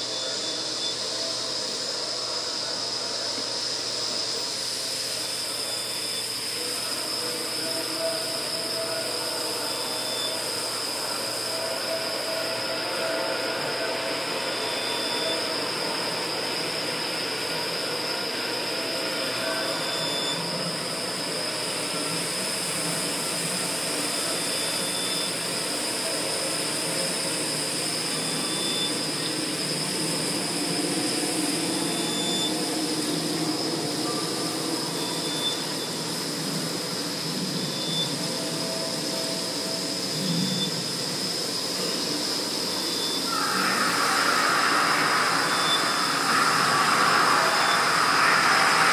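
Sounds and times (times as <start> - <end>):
dense electronic noise drone: 0.0 - 48.9
high whine: 0.0 - 48.9.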